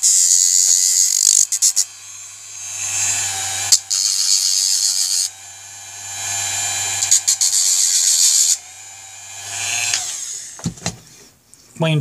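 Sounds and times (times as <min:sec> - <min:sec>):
rotary tool high-pitched whirr: 0:00.0 - 0:10.8.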